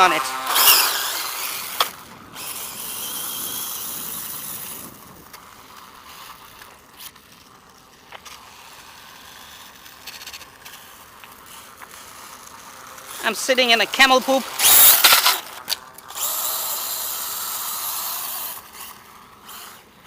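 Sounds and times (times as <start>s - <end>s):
rc bike motor whir: 0.0s - 20.0s.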